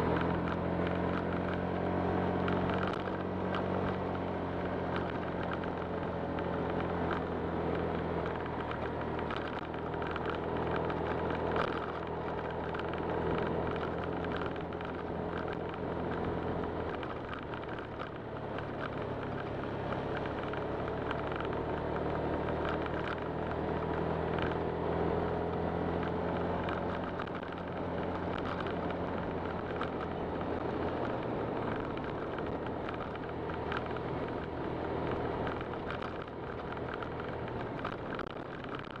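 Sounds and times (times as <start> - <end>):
scooter engine running: 0.0 - 39.0
wind and road noise: 0.0 - 39.0.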